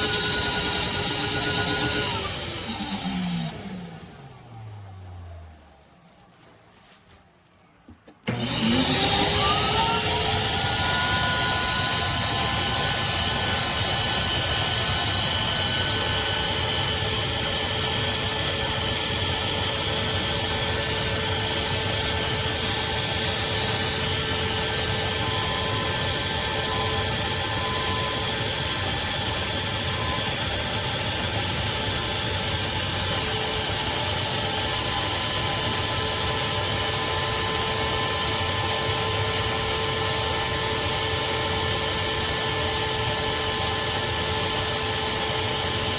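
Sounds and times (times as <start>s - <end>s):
shop vacuum running: 0.0s - 7.0s, 7.9s - 45.9s.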